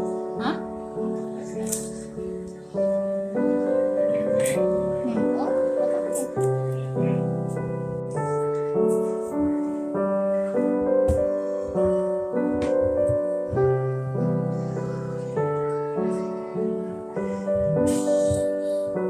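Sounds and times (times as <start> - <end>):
soft piano music: 0.0 - 19.0.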